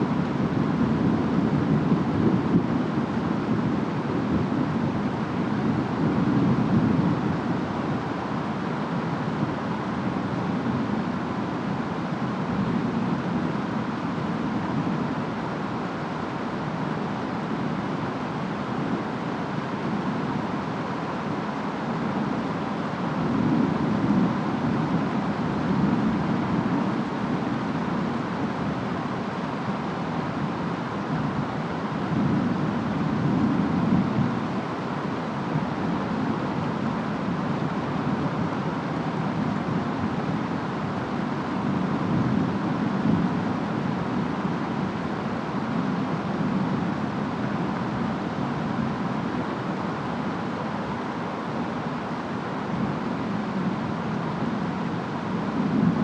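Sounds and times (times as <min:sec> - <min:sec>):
rain and wind: 0:00.0 - 0:56.0.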